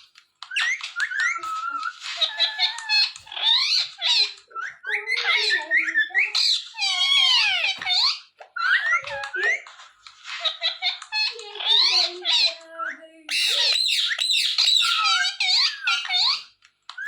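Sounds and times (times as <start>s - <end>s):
parrot chattering squeaky calls: 0.5s - 9.6s, 10.2s - 12.6s, 13.3s - 17.0s.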